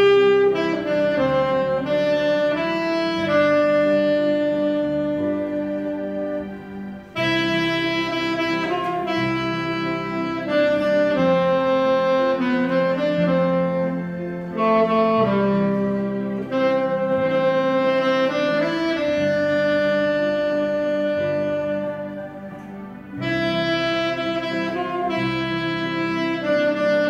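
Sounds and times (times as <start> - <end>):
alto saxophone slow melody: 0.0 - 27.0.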